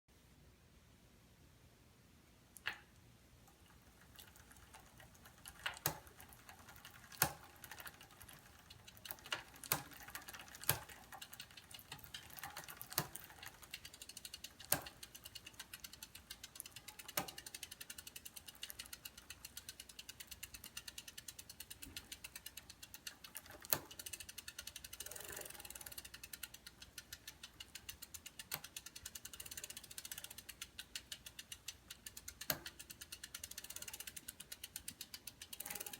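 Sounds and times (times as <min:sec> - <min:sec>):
bicycle chain clicking: 0:03.5 - 0:35.9
bicycle drivetrain ticking: 0:03.5 - 0:35.9.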